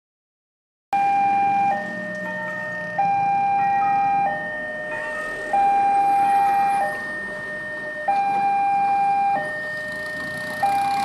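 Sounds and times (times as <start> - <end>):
two-tone crossing alarm: 0.9 - 11.0.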